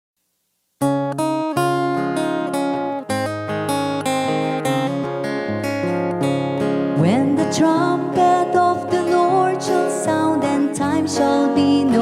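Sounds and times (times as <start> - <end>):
acoustic guitar strumming: 0.8 - 12.0.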